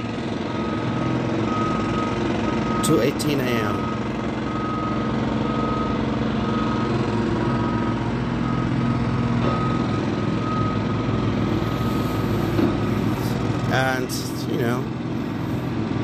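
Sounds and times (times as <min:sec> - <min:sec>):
reversing alarm beeping: 0:00.0 - 0:15.8
diesel engine running: 0:00.0 - 0:16.0.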